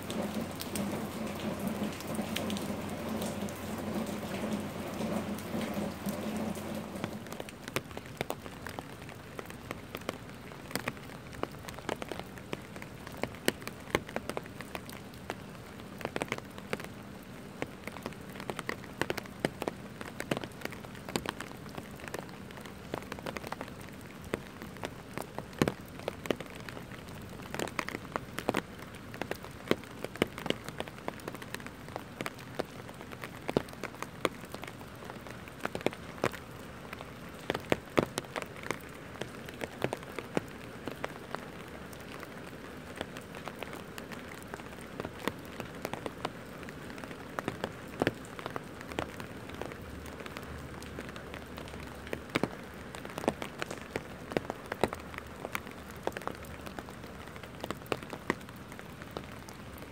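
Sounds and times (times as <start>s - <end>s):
rain on wet pavement: 0.0s - 59.9s
raindrops tapping close by: 0.0s - 59.9s.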